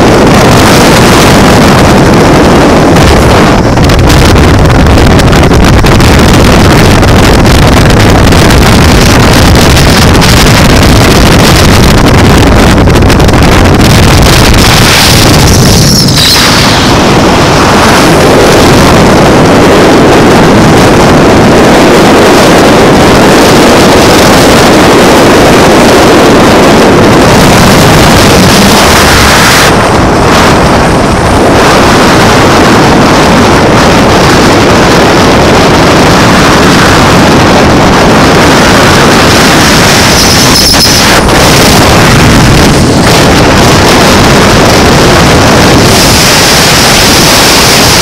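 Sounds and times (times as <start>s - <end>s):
road noise: 0.0s - 48.0s
vehicle engine: 0.0s - 48.0s
wind buffeting microphone: 0.0s - 48.0s.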